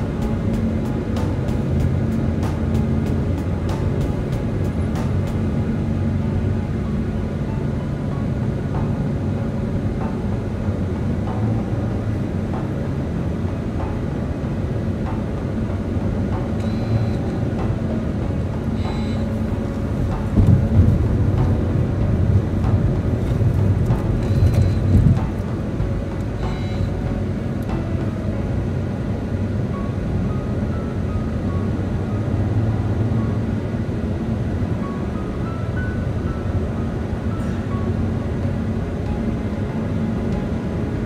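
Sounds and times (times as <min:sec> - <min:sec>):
car engine hum: 0:00.0 - 0:41.0
road and tyre noise: 0:00.0 - 0:41.0.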